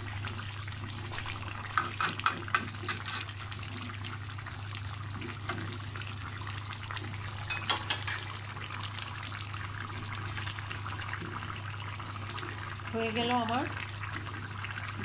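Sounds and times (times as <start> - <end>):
sauce bubbling and popping: 0.0 - 15.0.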